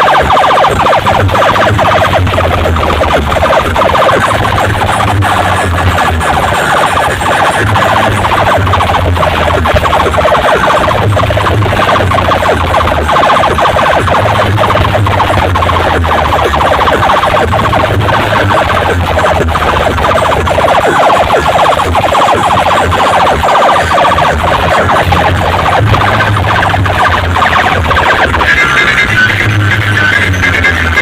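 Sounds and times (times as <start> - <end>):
heavy bass: 0.0 - 31.0
siren-like electronic warble: 0.0 - 31.0.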